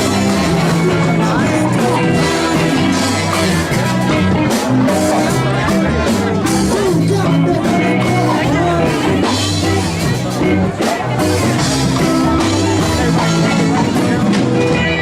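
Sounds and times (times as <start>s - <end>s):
person singing: 0.0s - 15.0s
ska-punk band playing live: 0.0s - 15.0s.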